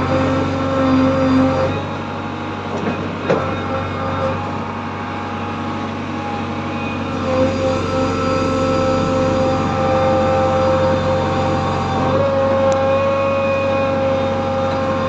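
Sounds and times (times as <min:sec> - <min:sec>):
diesel engine running: 0:00.0 - 0:15.0
hydraulic whine: 0:00.0 - 0:15.0.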